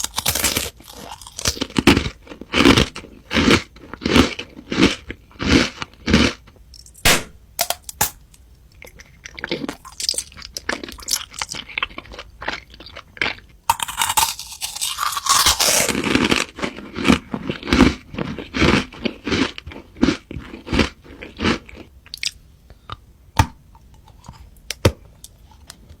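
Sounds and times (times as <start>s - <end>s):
crunchy food chewing: 0.0s - 6.9s, 7.6s - 22.4s, 23.5s - 26.0s.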